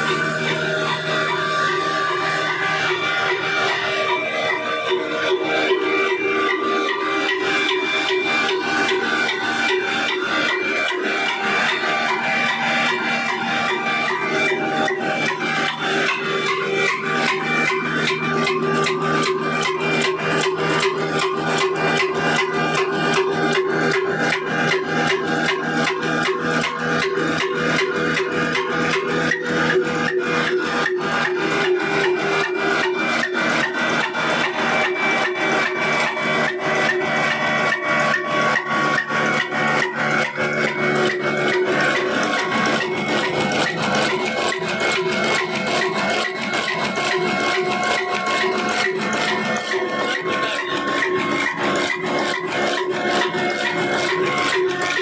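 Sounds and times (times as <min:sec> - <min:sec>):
diesel engine running: 0:00.0 - 0:55.0
mill grinding and rubbing: 0:00.0 - 0:55.0
steady whine: 0:00.0 - 0:55.0.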